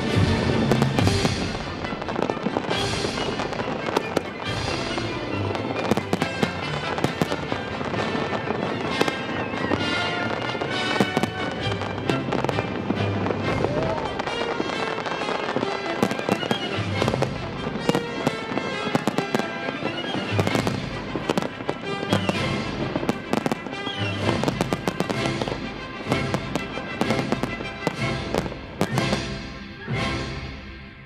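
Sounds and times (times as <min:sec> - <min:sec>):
fireworks bursting with sharp bangs: 0:00.0 - 0:31.0
music playing: 0:00.0 - 0:31.0.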